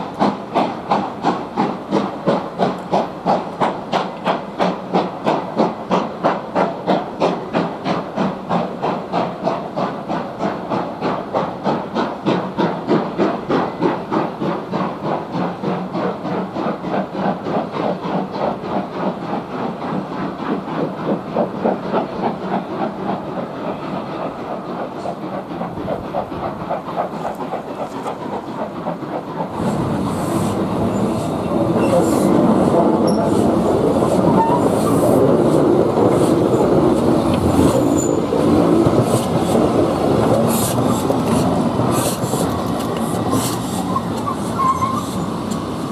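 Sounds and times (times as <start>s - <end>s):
steam locomotive exhaust beats: 0.0s - 45.9s
train wheels rumbling on rail: 0.0s - 45.9s.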